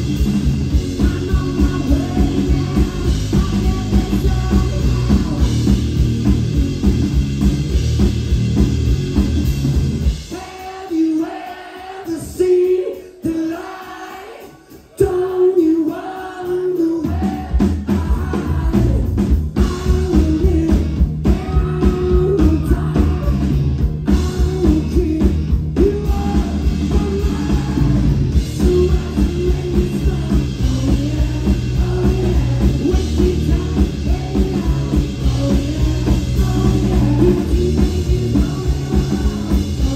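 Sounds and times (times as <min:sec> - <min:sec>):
live rock band playing: 0:00.0 - 0:39.9
person singing: 0:00.8 - 0:05.7, 0:10.3 - 0:39.9.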